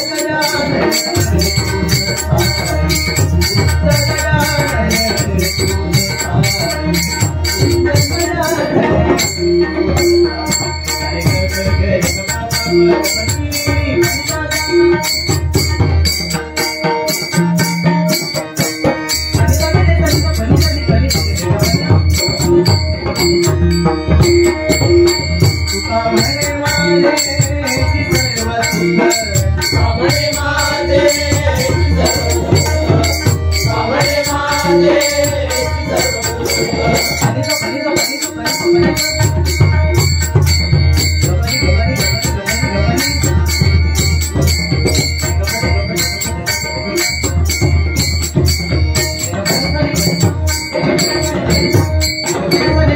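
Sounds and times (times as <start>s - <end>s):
fast hand drumming: 0.0s - 52.9s
jingling hand percussion: 0.0s - 52.9s.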